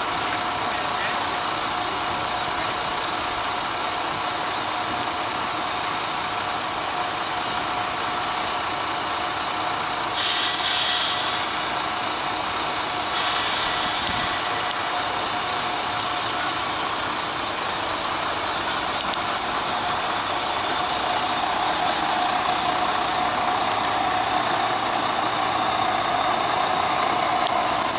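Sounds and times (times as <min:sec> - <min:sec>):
locomotive machinery hissing and humming: 0:00.0 - 0:27.9.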